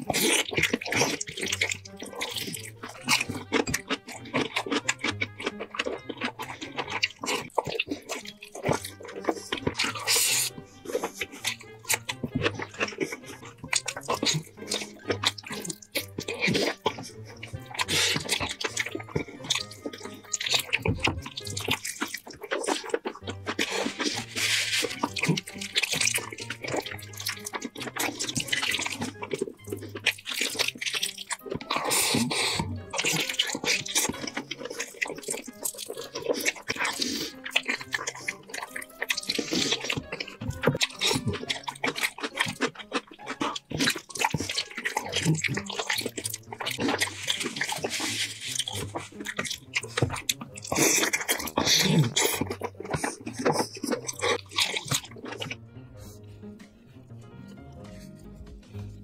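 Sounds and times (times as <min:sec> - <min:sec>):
soft background music: 0:00.0 - 0:59.0
wet chewing and slurping: 0:00.0 - 0:59.0.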